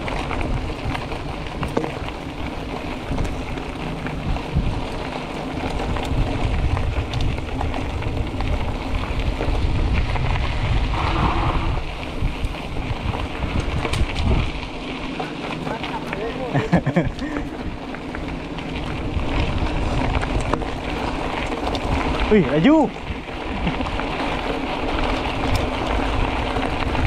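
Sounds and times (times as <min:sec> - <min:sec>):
bike rattling clicks: 0:00.0 - 0:27.0
bike tyre noise: 0:00.0 - 0:27.0
wind buffeting microphone: 0:00.0 - 0:27.0.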